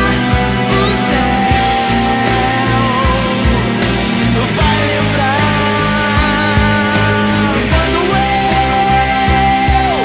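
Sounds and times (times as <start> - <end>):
instrumental rock music: 0.0 - 10.0.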